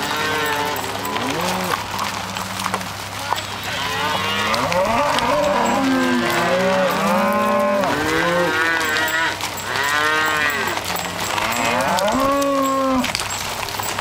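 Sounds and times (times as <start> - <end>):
cattle mooing: 0.0 - 13.4.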